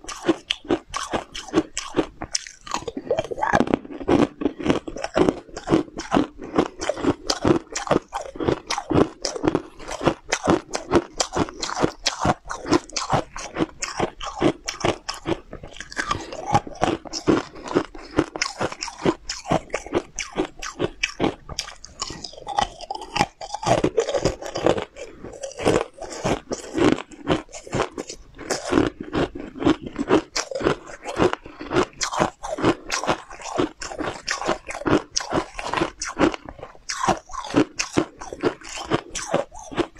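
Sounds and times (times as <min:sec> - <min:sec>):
crunching hard sweets: 0:00.0 - 0:39.9
wet chewing: 0:00.0 - 0:39.9.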